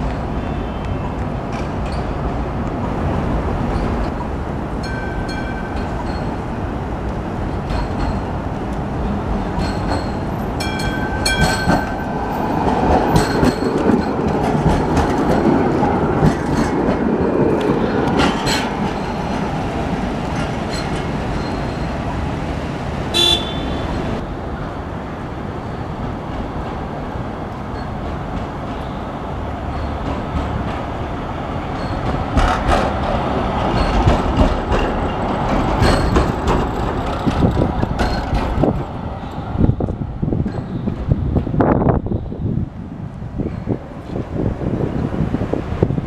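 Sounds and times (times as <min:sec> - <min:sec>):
tram running past: 0:00.0 - 0:46.0
tram warning tone: 0:03.7 - 0:06.8, 0:07.5 - 0:25.0, 0:25.6 - 0:42.8.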